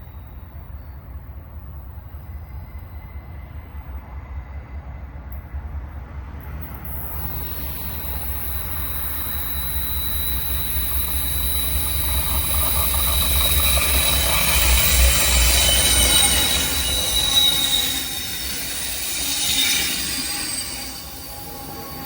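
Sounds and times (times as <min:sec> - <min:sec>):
train rumbling: 0:00.0 - 0:22.0
wheels squealing on rails: 0:00.0 - 0:22.0.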